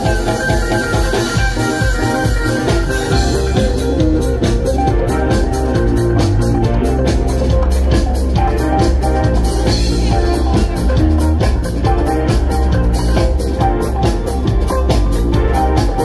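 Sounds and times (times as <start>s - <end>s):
bass: 0.0s - 16.0s
drum kit steady beat: 0.0s - 16.0s
electric guitar: 0.0s - 16.0s
keyboards: 0.0s - 16.0s.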